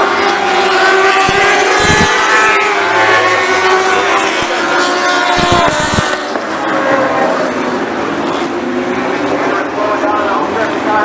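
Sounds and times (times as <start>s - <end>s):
race car engines: 0.0s - 11.0s.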